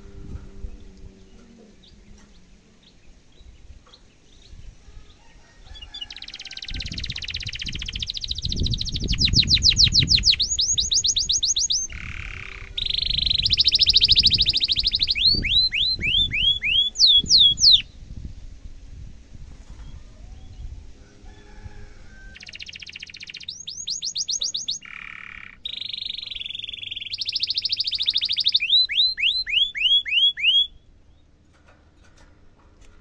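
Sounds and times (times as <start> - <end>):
canary singing: 0.0 - 18.0, 21.5 - 31.5.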